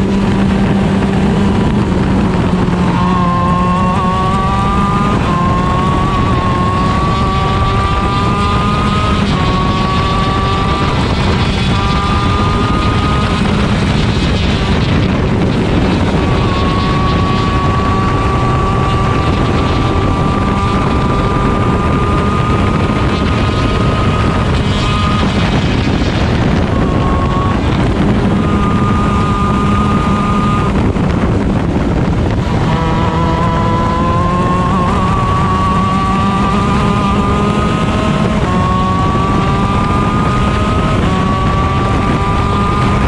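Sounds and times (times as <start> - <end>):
kart engine at high revs: 0.0 - 43.0
wind buffeting microphone: 0.0 - 43.0.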